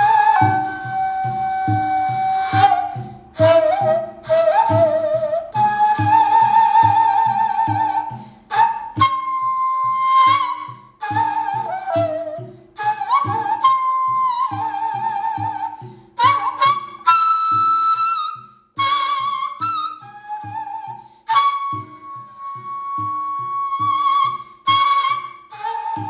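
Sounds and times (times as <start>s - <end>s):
bamboo flute slow melody: 0.0s - 26.0s
rhythmic accompaniment: 0.0s - 26.0s.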